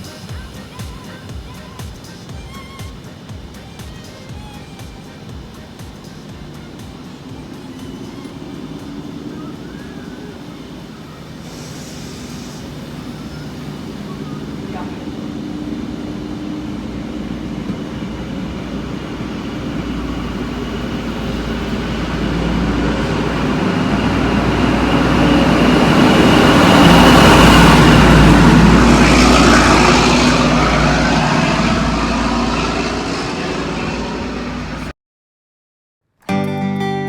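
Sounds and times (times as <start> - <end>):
train passing: 0.0 - 34.9.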